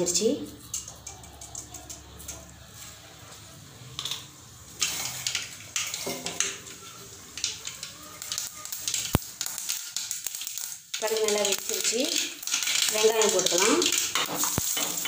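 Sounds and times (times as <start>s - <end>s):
oil sizzling: 0.0s - 15.0s
seeds popping in hot oil: 0.0s - 15.0s.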